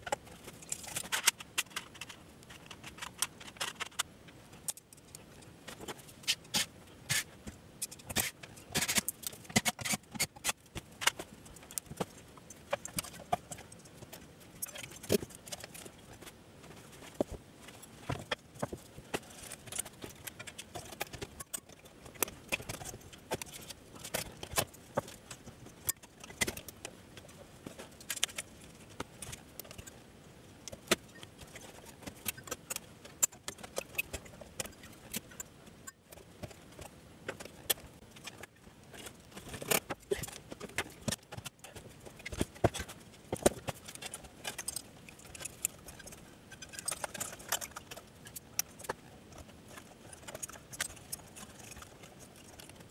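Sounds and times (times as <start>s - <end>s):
tools and parts clicking and clinking: 0.0s - 16.3s, 17.1s - 29.9s, 30.6s - 52.9s.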